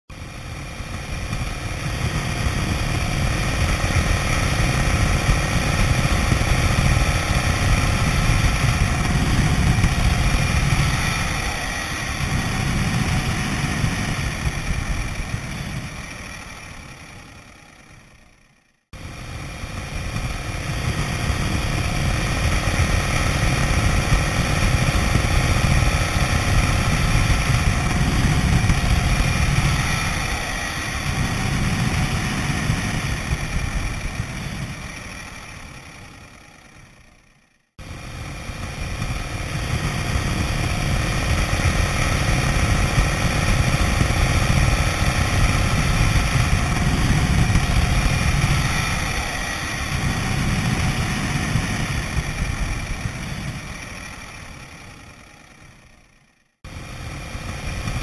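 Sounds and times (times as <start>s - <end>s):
motorcycle engine rumble: 0.1s - 58.0s
wind rushing over microphone: 0.2s - 16.0s, 19.0s - 34.9s, 37.8s - 54.1s.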